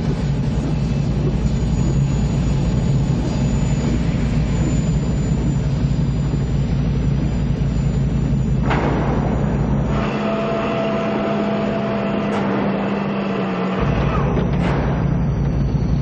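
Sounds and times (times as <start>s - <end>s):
helicopter rotor and engine drone: 0.0s - 16.0s.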